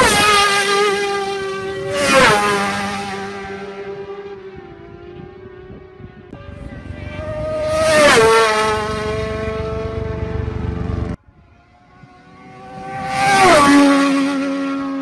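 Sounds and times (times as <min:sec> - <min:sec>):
racing motorcycles passing: 0:00.0 - 0:15.0.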